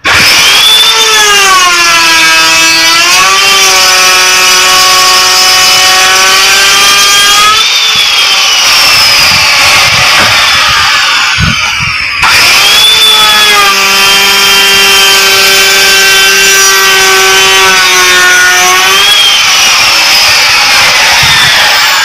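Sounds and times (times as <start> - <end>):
electric wood router whining: 0.0 - 22.0.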